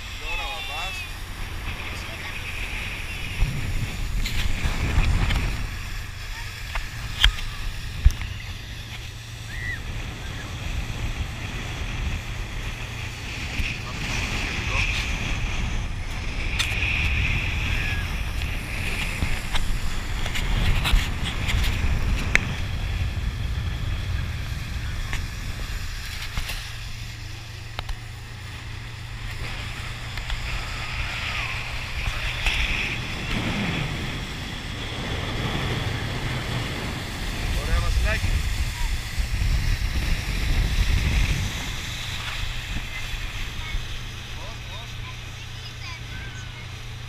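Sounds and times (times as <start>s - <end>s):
motorboat running at speed: 0.0s - 47.0s
rush of boat wake: 0.0s - 47.0s
wind buffeting microphone: 0.0s - 47.0s.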